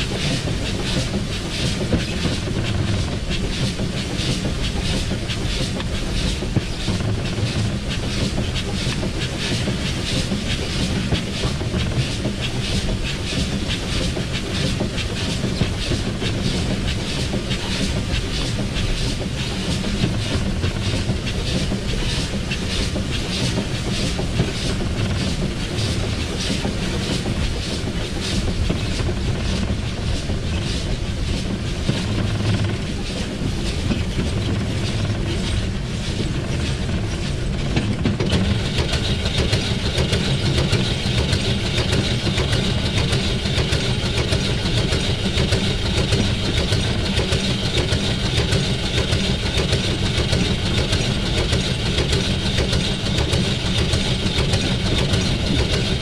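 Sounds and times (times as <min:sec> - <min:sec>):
steady steam hiss: 0:00.0 - 0:56.0
steam locomotive beats: 0:00.0 - 0:56.0.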